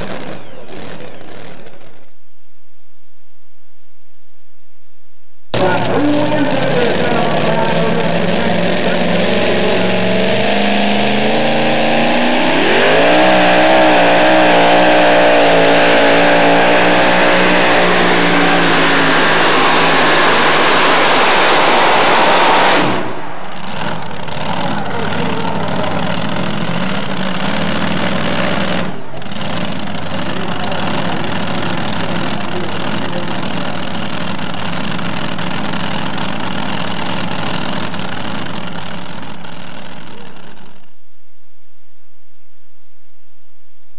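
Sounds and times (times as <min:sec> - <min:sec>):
truck engine revving: 0:00.0 - 0:02.2, 0:05.5 - 0:40.9.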